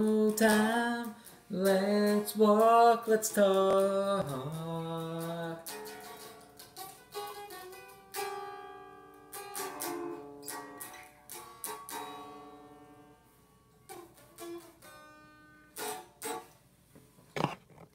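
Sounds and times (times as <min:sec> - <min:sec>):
electric guitar strumming chords: 0:00.0 - 0:16.6.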